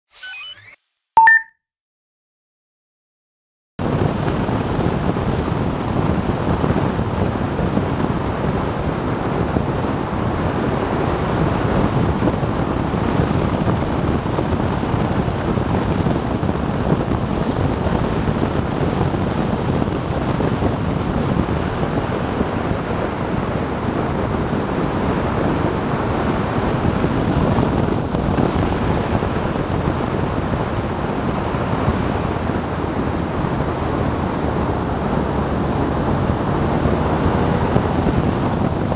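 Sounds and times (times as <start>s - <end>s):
wind rushing on microphone: 3.8s - 38.9s.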